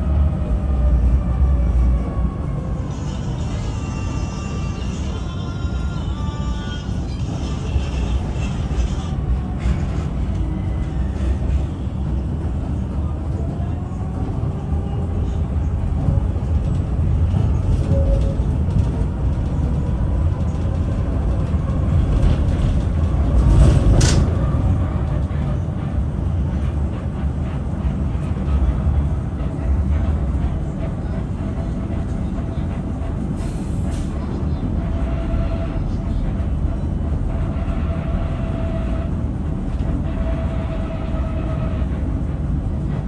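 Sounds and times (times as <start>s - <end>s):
tram rumbling on rails: 0.0s - 43.0s.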